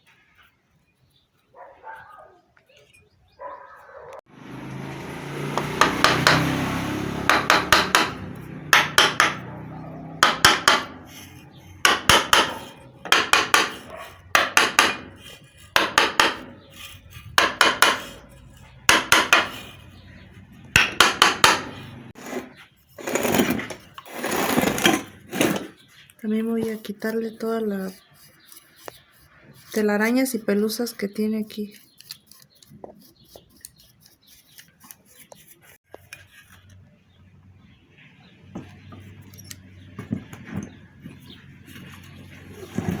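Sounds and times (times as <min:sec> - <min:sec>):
scraping: 0:05.6 - 0:36.9, 0:37.9 - 0:43.0.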